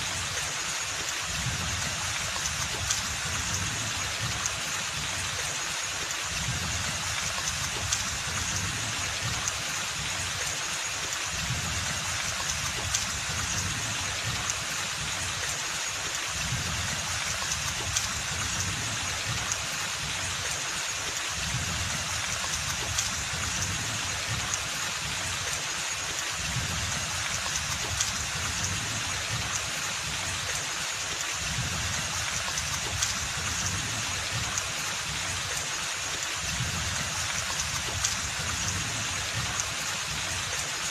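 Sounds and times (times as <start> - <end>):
rain on foliage: 0.0 - 40.9
raindrops ticking: 0.0 - 40.9.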